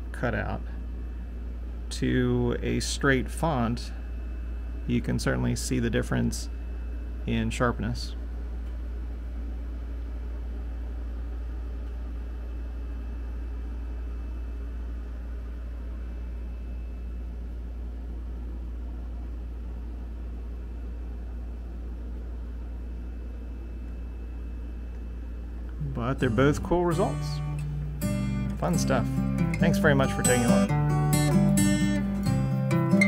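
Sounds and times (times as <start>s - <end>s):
faint high whine: 0.0s - 33.0s
low mechanical hum: 0.0s - 33.0s.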